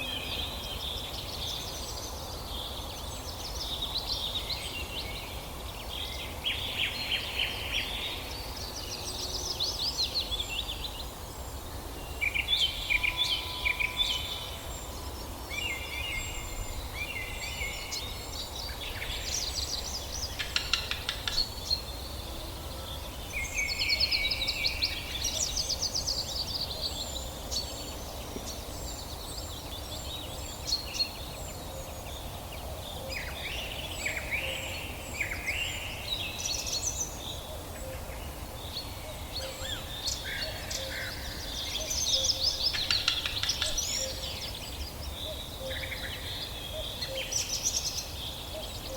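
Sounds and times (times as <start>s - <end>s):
steady background noise: 0.0s - 48.9s.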